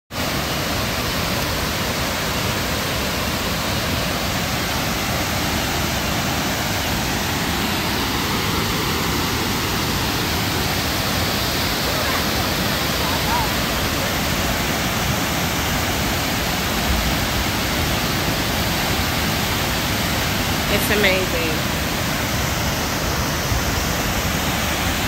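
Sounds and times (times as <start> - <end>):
waterfall rushing onto boulders: 0.1 - 25.0.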